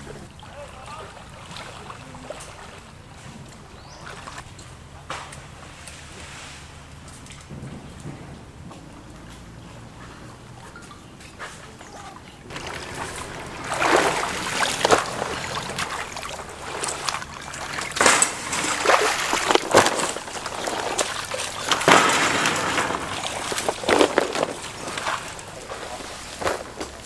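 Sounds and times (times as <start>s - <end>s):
water splashing and sloshing: 0.0s - 27.0s.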